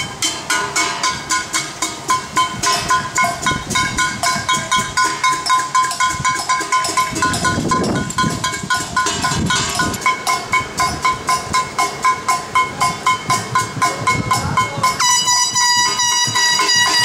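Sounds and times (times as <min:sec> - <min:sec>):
metal pots and pans banged: 0:00.3 - 0:17.0.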